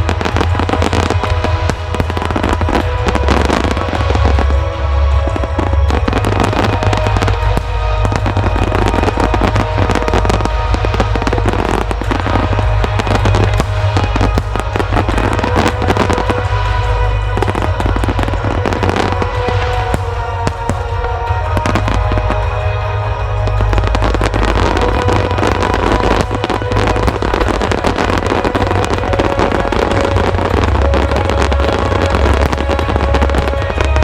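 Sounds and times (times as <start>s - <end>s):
fireworks shells exploding: 0.0s - 34.0s
loud music with sustained tones: 0.0s - 34.0s.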